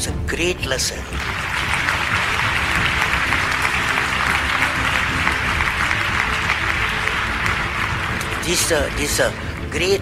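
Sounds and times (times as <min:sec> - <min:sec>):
audience applauding: 0:01.1 - 0:10.0.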